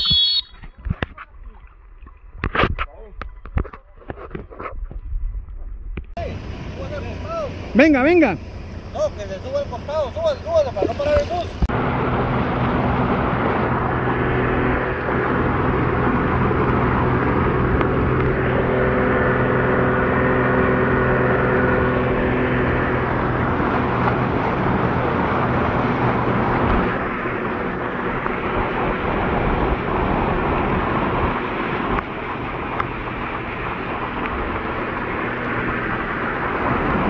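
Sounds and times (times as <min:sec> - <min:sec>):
rushing floodwater: 0:06.2 - 0:37.0
vehicle engine droning: 0:06.2 - 0:37.0.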